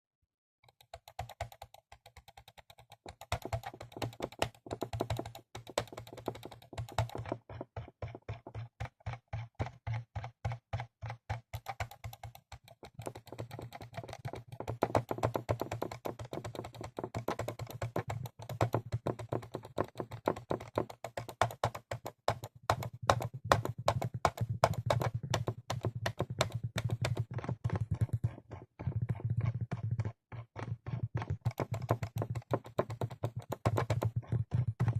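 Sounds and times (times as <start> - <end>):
computer mouse clicks: 0.6 - 34.9.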